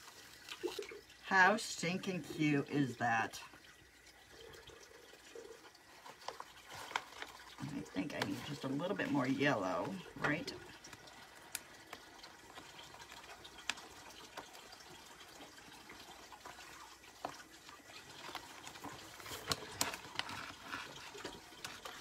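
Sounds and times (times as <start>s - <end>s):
water tap running: 0.0s - 22.0s.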